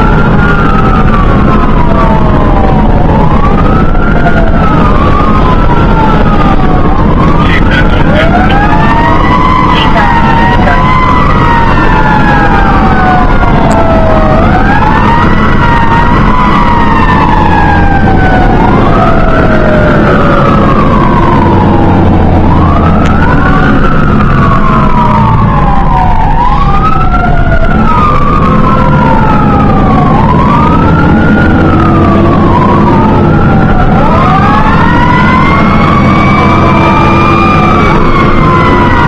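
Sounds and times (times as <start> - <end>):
engine and road rumble: 0.0 - 39.0
sirens wailing: 0.0 - 39.0.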